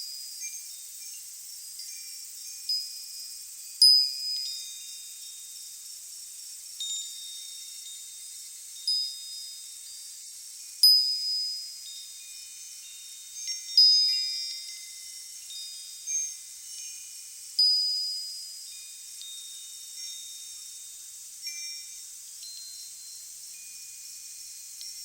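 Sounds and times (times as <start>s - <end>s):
faint steady hiss: 0.0s - 25.0s
wind chimes tinkling: 0.0s - 25.0s.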